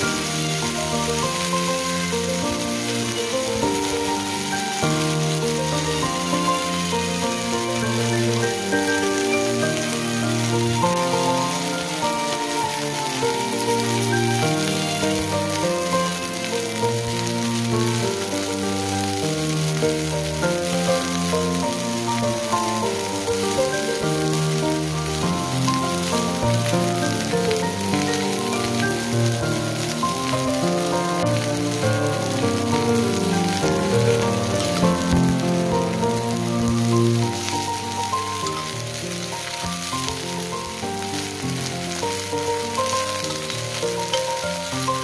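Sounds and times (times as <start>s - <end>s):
background music of held notes: 0.0s - 45.0s
fish sizzling in a frying pan: 0.0s - 45.0s.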